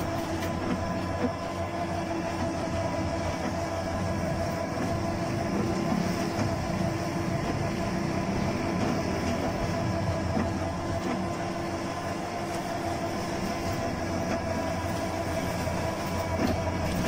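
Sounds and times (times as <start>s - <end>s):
vehicle rumbling and rattling: 0.0s - 17.0s.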